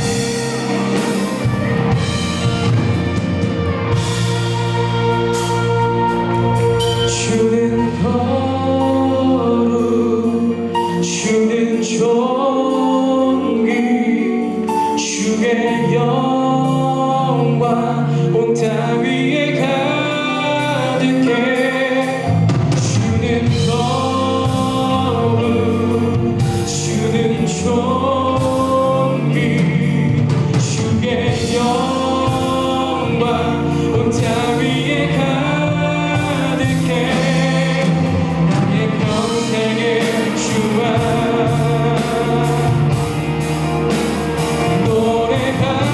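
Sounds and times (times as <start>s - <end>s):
bass and drums: 0.0s - 13.8s, 18.6s - 45.9s
people singing: 0.0s - 45.9s
worship band playing: 0.0s - 45.9s.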